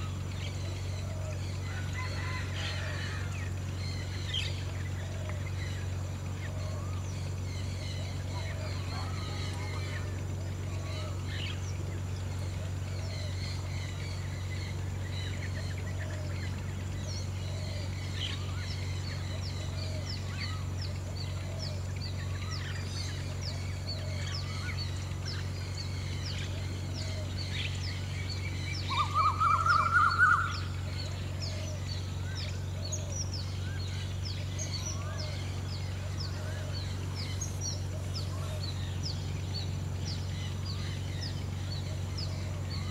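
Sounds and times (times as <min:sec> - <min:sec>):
birds chirping: 0:00.0 - 0:42.9
low background hum: 0:00.0 - 0:42.9.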